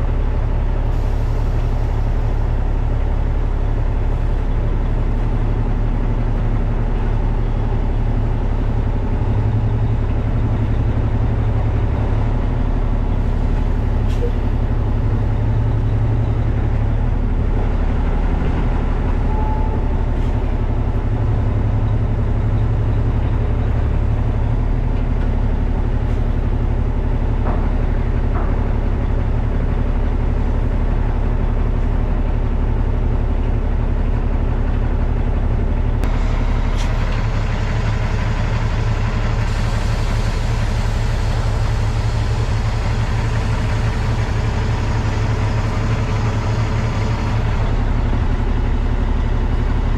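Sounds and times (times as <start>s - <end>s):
diesel engine at low revs: 0.0s - 49.9s.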